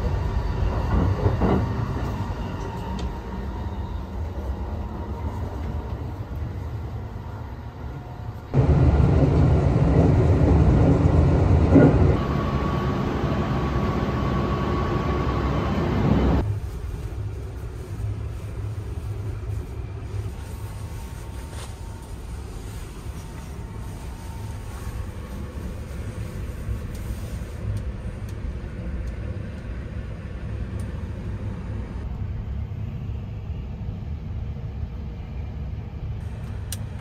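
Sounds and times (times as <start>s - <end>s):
train rumble from inside car: 0.0s - 37.0s.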